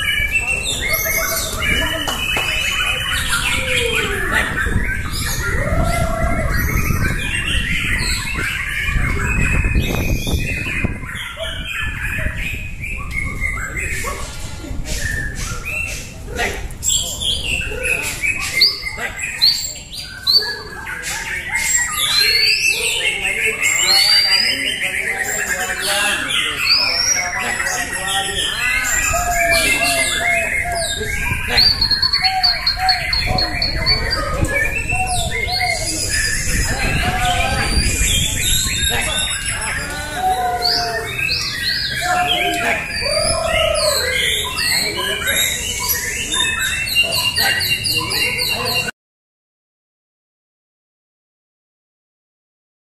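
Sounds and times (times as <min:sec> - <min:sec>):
birds warbling and whistling: 0:00.0 - 0:49.0.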